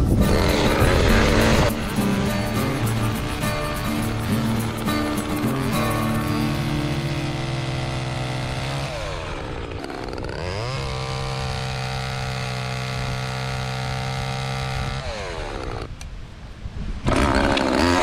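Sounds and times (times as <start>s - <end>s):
chainsaw revving and cutting: 0.0s - 15.9s, 17.0s - 18.0s.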